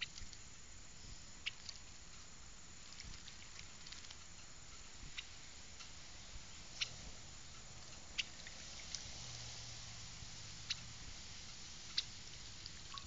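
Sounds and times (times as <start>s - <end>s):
bird splashing ticks: 0.0s - 0.5s, 1.4s - 6.1s, 6.8s - 13.0s
faint steady hiss: 0.0s - 13.0s.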